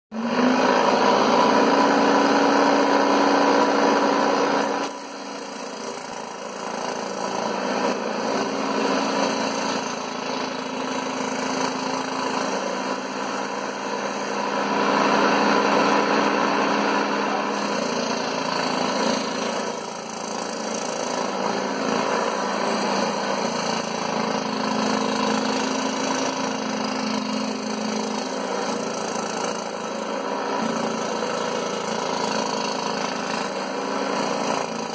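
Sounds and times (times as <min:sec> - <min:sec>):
scroll saw cutting board: 0:00.2 - 0:34.9.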